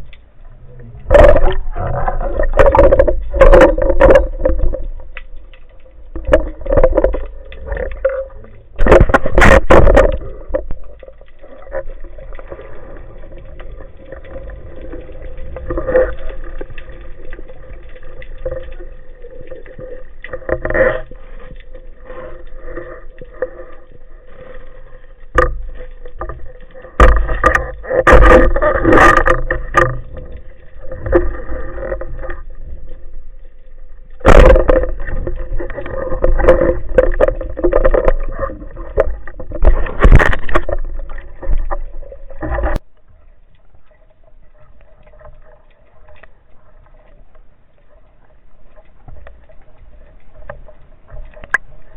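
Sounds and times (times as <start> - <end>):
muffled underwater noise: 0.0 - 51.9
surges of water: 0.0 - 51.9.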